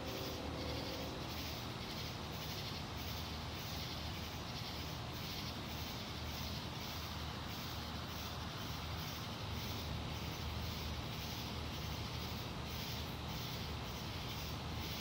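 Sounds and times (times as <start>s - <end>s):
night insects calling: 0.0s - 15.0s
steady low hum: 0.0s - 15.0s.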